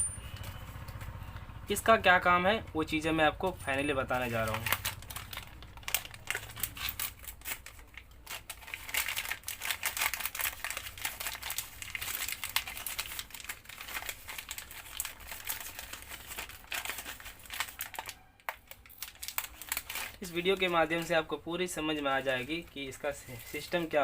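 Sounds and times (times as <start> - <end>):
packaging crinkling and rustling: 4.0 - 24.0.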